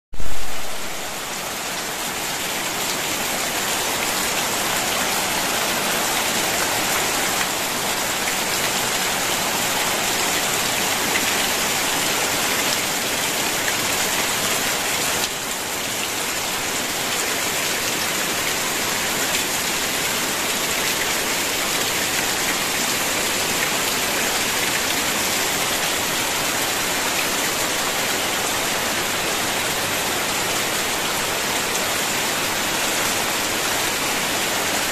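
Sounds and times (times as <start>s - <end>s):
heavy rain on foliage and roof: 0.1s - 34.9s.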